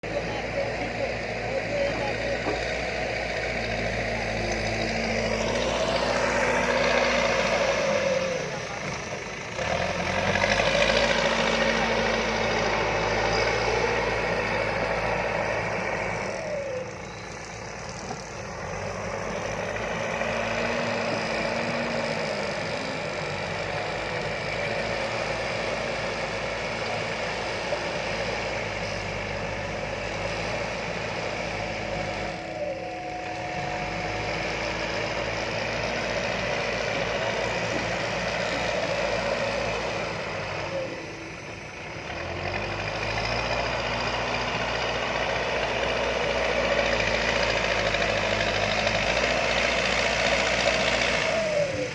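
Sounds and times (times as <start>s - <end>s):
diesel engine of construction machine: 0.0s - 51.9s.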